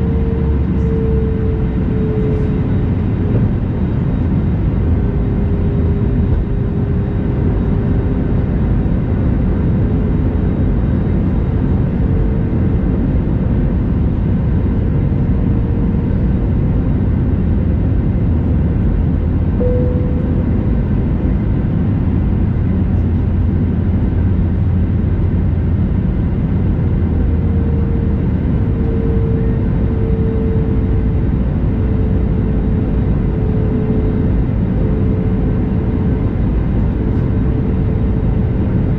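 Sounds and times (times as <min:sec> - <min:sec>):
airplane cabin engine rumble: 0:00.0 - 0:38.9
faint humming tone: 0:00.0 - 0:38.9.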